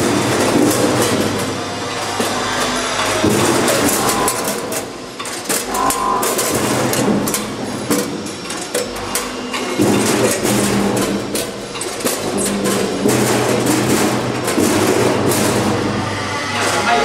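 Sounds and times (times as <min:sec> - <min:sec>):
bucket gates clacking: 0:00.0 - 0:16.0
wings knocking into metal buckets: 0:00.0 - 0:16.0
vibrating feeders humming: 0:00.0 - 0:17.0.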